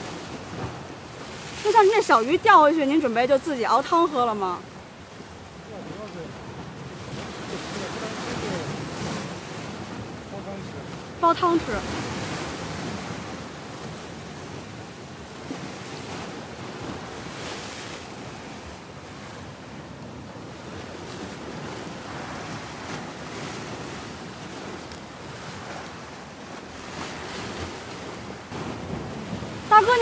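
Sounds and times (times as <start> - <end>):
waves washing on rocks: 0.0 - 30.0
wind buffeting microphone: 0.0 - 30.0.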